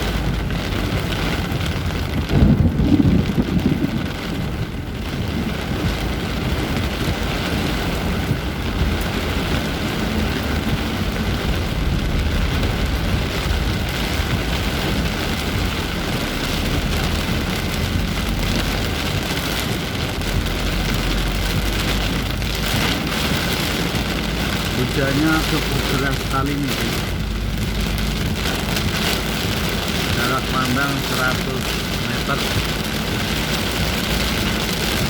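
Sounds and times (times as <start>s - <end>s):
heavy rain pouring: 0.0s - 35.0s
low rumble: 0.0s - 35.0s.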